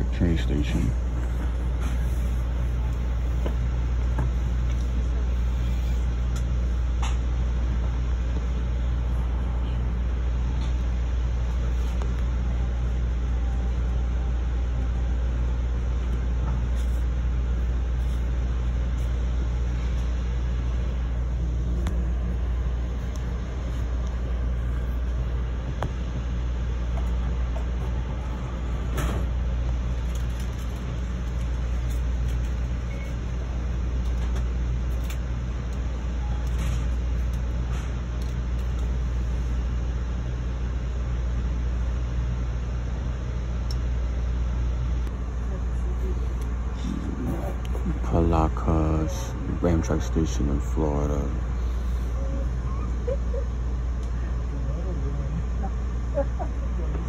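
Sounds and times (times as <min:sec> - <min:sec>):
train car rumble and hum: 0:00.0 - 0:57.0.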